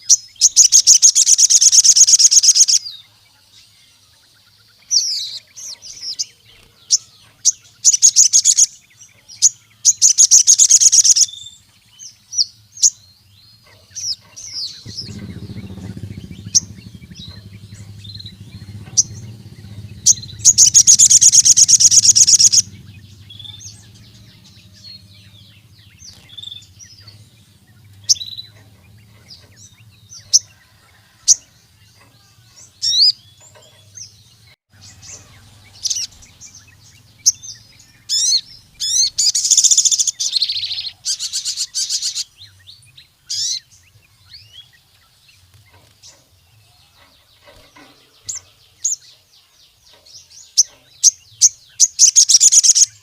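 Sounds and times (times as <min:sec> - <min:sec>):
bird high-pitched trill: 0:00.0 - 0:03.0, 0:04.9 - 0:11.6, 0:13.6 - 0:42.6, 0:46.8 - 0:53.0.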